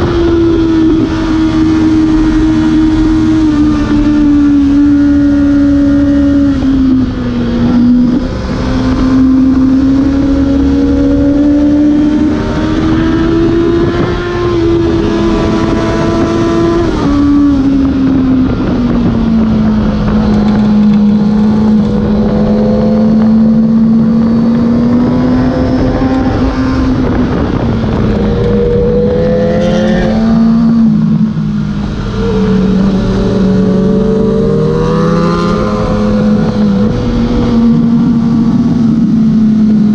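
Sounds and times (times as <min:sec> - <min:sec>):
motorcycle engine revving high: 0:00.0 - 0:39.9
wind rushing: 0:00.0 - 0:39.9.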